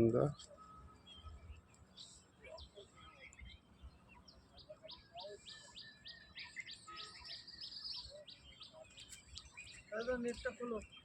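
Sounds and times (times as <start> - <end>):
bird calls: 0.0 - 11.0
rapid high bird chirps: 0.3 - 11.0.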